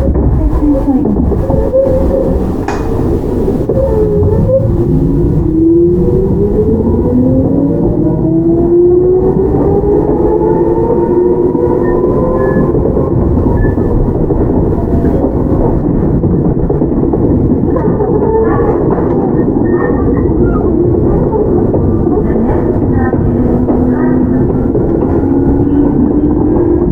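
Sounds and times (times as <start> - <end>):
electric train motor hum: 0.0 - 26.9
wheel and rail rumble: 0.0 - 26.9.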